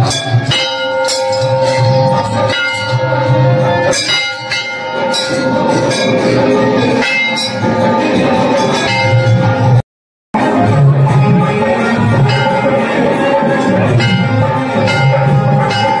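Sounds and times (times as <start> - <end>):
temple bells ringing: 0.0 - 9.8, 10.5 - 16.0.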